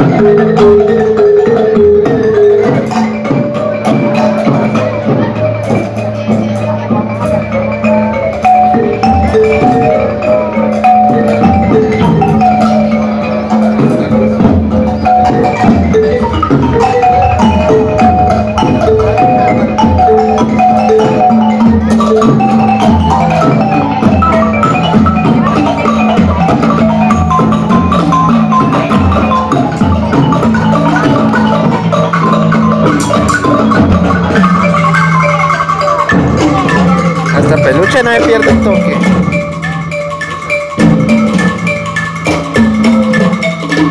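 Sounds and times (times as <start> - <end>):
marimba mallet runs: 0.0 - 43.9.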